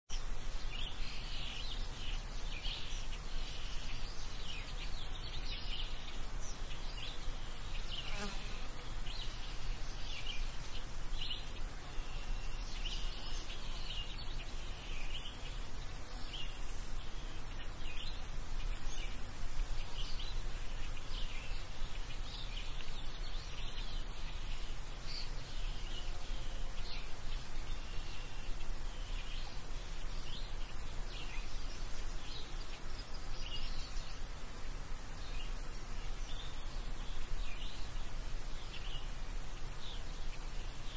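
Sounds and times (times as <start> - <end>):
small birds chirping: 0.1 - 40.9.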